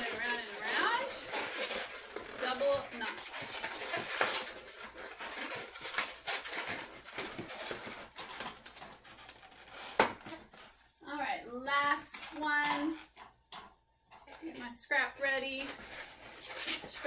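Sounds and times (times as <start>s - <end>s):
balloons rubbing and stretching: 0.0s - 11.0s, 11.8s - 17.0s
scratchy handling noise: 0.0s - 11.0s, 11.8s - 17.0s.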